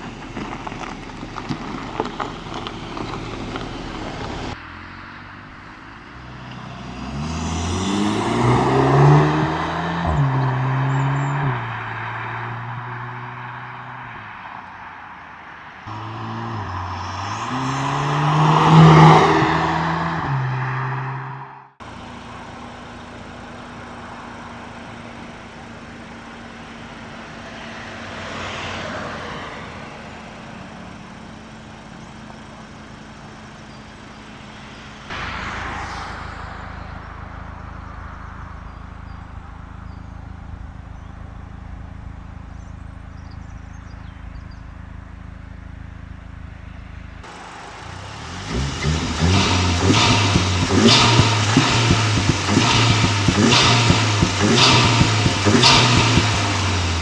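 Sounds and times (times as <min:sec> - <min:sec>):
rough pulsing exhaust: 0:00.0 - 0:14.3, 0:15.8 - 0:28.9, 0:29.5 - 0:57.0
car engine idling: 0:00.0 - 0:20.6, 0:21.8 - 0:57.0.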